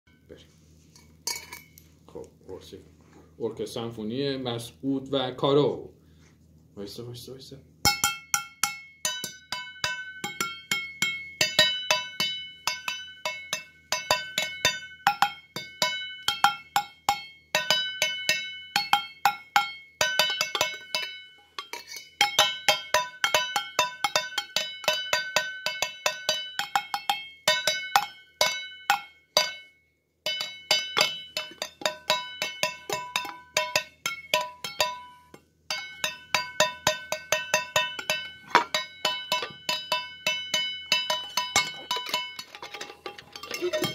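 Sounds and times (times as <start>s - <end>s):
metal kitchenware clinking: 1.0s - 1.9s, 7.8s - 43.9s.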